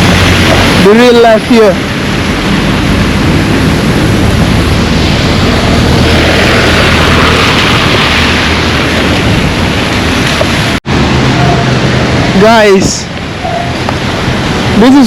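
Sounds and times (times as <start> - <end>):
rain and wind on microphone: 0.0 - 15.0.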